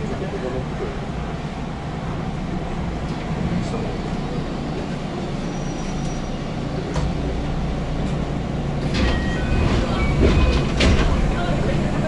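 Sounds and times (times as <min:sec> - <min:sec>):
stopped train hum and rumble: 0:00.0 - 0:12.0.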